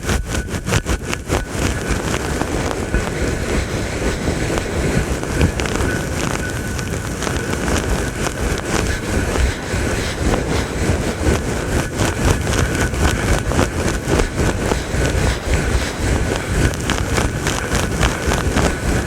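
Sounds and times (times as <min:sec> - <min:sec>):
brush scrubbing against microphone: 0:00.0 - 0:19.0.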